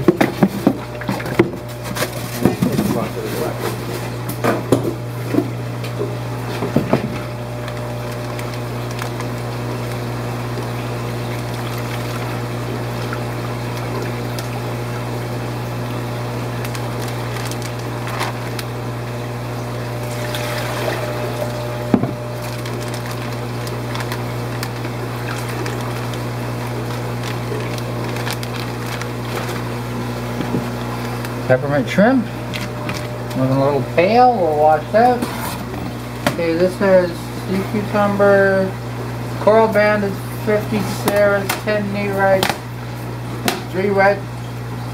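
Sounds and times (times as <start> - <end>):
aquarium pumps humming: 0.0 - 44.9
moving water: 5.0 - 44.9.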